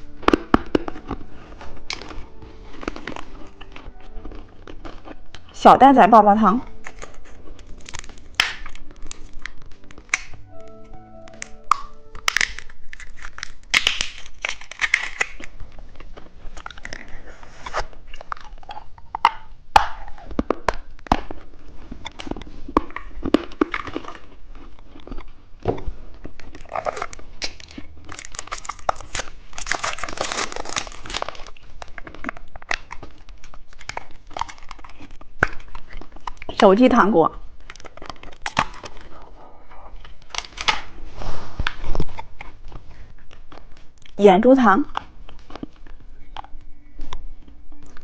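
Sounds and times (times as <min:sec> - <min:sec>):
plastic wrappers crinkling: 0:00.0 - 0:39.3, 0:39.9 - 0:41.0, 0:44.8 - 0:48.0.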